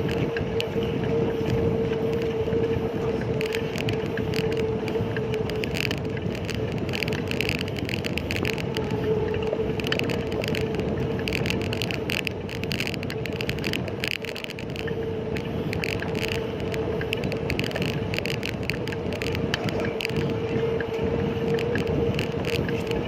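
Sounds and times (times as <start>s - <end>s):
bicycle rattling clicks: 0.0s - 23.0s
bicycle road hum: 0.0s - 23.0s.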